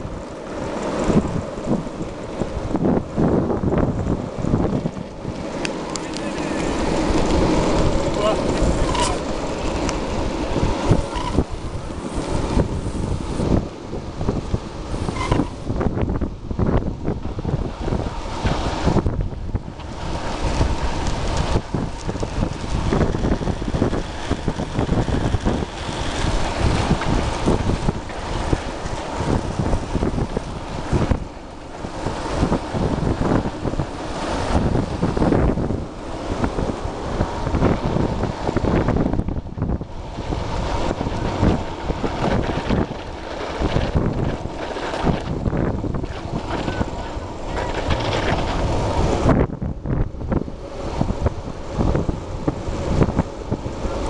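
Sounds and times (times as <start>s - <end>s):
wheels rolling on asphalt: 0.0s - 54.0s
wind buffeting microphone: 0.0s - 54.0s.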